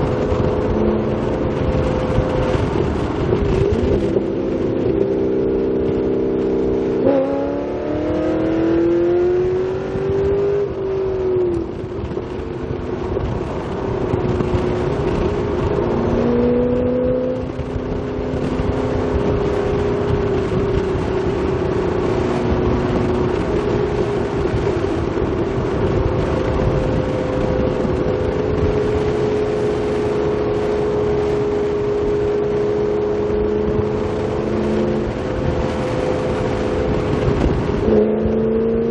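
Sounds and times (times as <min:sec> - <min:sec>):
car exhaust engine note: 0:00.0 - 0:38.9.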